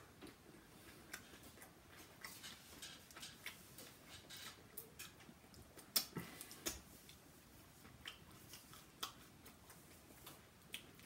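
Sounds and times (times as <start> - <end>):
crunchy chewing: 0.2 - 11.0.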